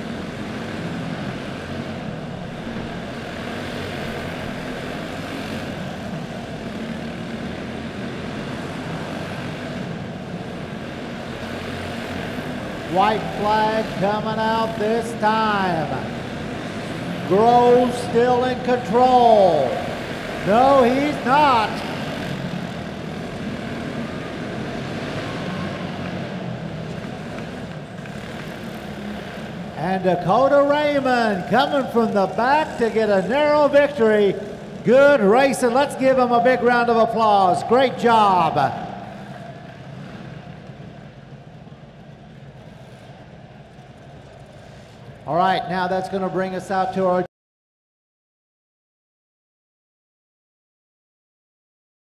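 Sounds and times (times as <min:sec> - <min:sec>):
racing kart engines droning: 0:00.0 - 0:47.3.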